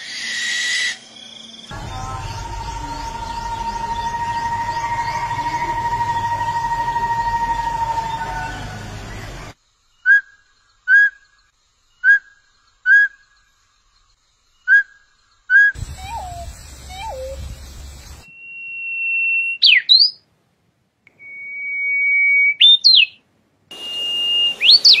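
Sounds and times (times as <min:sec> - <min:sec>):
warbler whistling song: 0:00.2 - 0:13.5, 0:14.5 - 0:20.2, 0:21.1 - 0:25.0.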